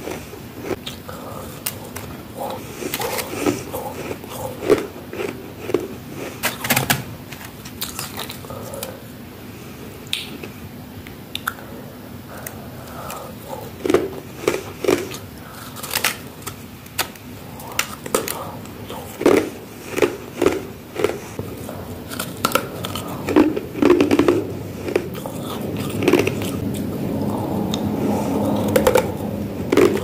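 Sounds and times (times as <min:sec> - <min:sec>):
chewing crunchy ice frost: 0:00.0 - 0:06.7, 0:07.5 - 0:09.0, 0:12.4 - 0:30.0.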